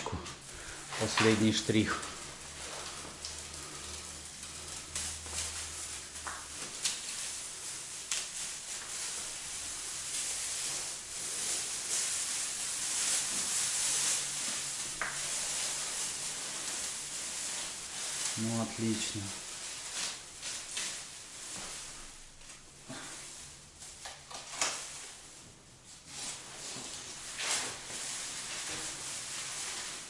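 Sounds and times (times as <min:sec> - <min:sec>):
plastic film peeling: 0:00.4 - 0:25.3, 0:26.0 - 0:30.0.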